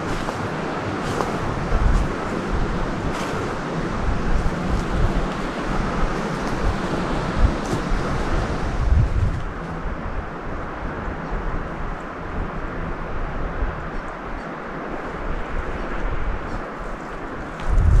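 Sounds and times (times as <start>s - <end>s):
rushing outdoor hiss: 0.0s - 18.0s
wind buffeting microphone: 0.0s - 18.0s.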